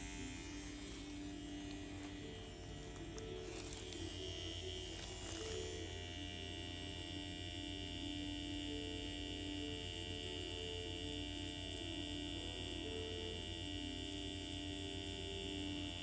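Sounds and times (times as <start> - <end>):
electric machine hum: 0.0 - 16.0
soft slow background music: 0.0 - 16.0.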